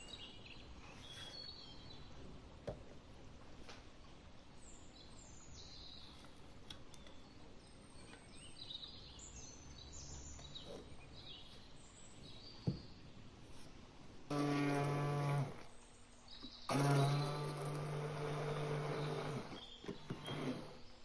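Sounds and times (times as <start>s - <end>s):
birds chirping: 0.0s - 2.3s, 4.6s - 13.6s, 14.5s - 21.0s.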